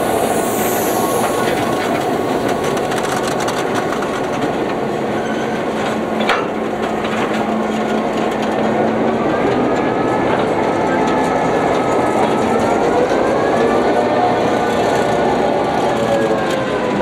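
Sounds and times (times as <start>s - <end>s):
locomotive wheels on rail: 0.0s - 17.0s
thin wavering whine: 0.0s - 17.0s.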